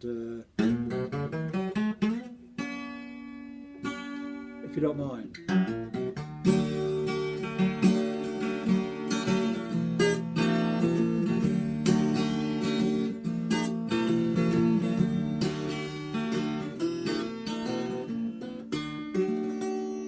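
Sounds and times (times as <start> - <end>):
acoustic guitar strummed chords: 0.4 - 20.0.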